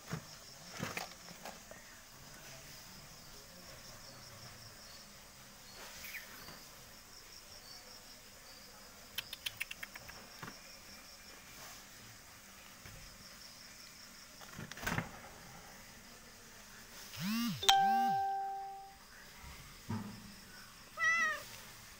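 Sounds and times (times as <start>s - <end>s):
insects chirping: 0.0s - 21.9s.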